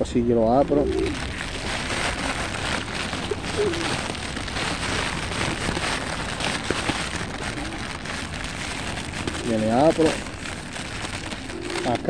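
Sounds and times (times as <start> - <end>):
plastic bag crinkling: 0.5 - 12.0
pigeons fluttering wings: 0.8 - 12.0.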